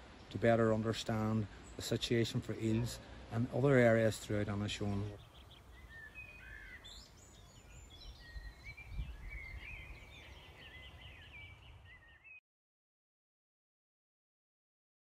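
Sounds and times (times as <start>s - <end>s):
songbirds singing: 0.0s - 12.4s.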